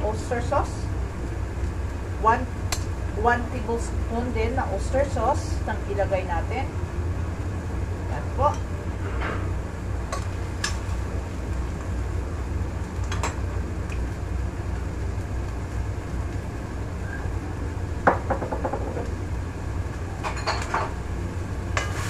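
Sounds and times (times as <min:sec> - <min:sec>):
low kitchen rumble: 0:00.0 - 0:22.0.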